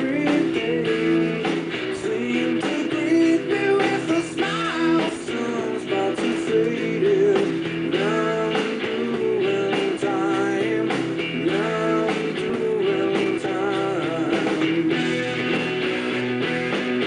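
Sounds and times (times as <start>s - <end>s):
bending guitar notes: 0.0s - 17.0s
rock music with guitar: 0.0s - 17.0s.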